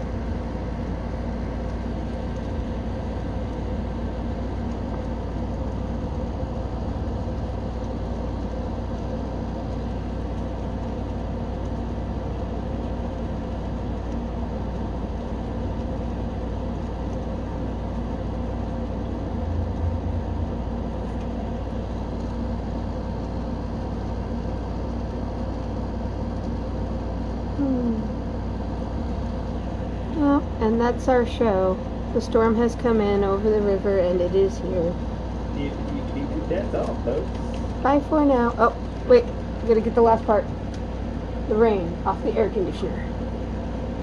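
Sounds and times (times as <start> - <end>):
low hum and rumble: 0.0 - 44.0.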